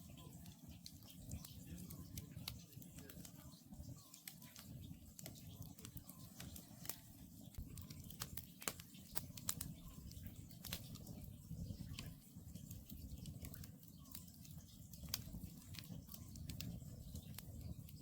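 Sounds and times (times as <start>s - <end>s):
campfire crackling: 0.0s - 18.0s
sharp pops from burning logs: 0.1s - 18.0s.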